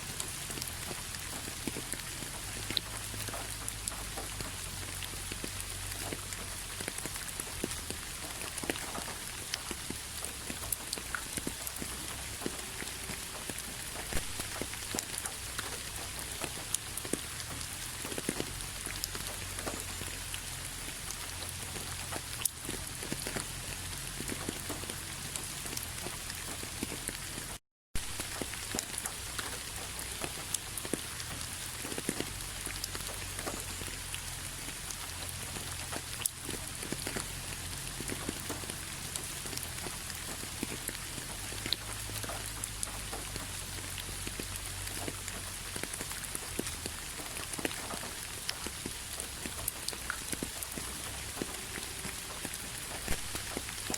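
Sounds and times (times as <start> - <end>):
rain falling: 0.0 - 53.9
raindrops tapping: 0.0 - 53.9.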